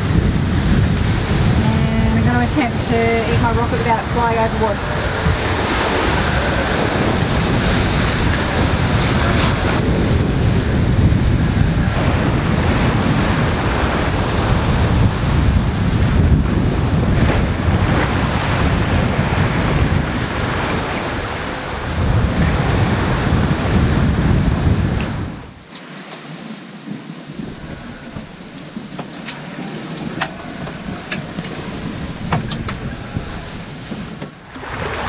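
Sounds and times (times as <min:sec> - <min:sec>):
water splashing along boat hull: 0:00.0 - 0:35.0
wind buffeting microphone: 0:00.0 - 0:35.0.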